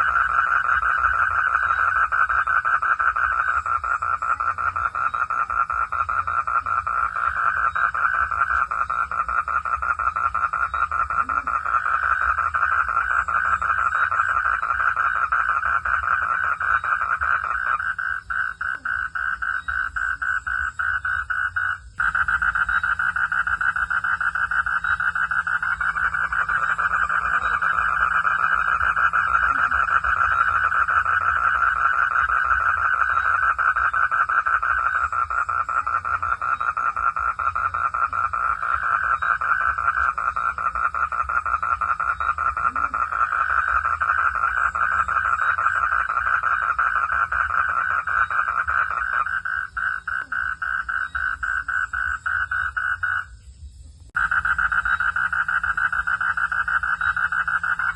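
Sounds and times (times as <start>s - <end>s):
frogs croaking in chorus: 0.0s - 57.9s.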